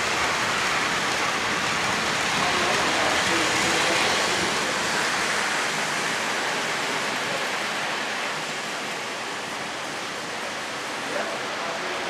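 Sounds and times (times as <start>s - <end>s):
model train wheels rolling on track: 0.0s - 12.0s.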